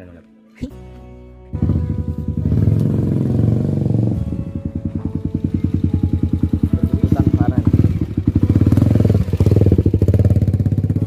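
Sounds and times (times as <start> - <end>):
motor scooter engine running: 1.5 - 11.0.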